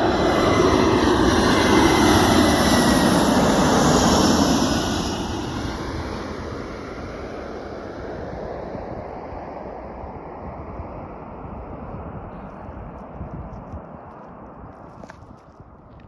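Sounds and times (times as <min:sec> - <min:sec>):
airplane engine rush: 0:00.0 - 0:15.8.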